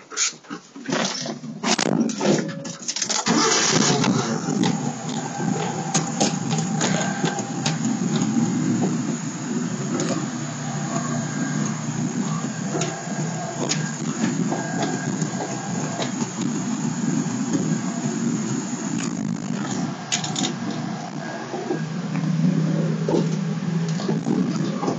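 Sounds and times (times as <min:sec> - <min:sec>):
truck engine rumbling: 0:02.0 - 0:24.9.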